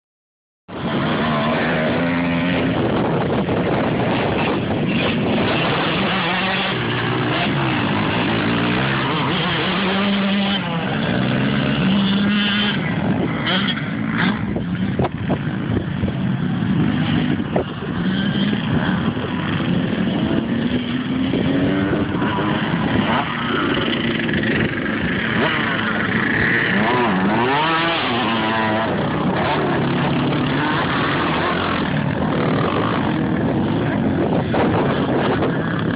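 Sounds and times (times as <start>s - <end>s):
dirt bike engine revving: 0.7s - 35.9s.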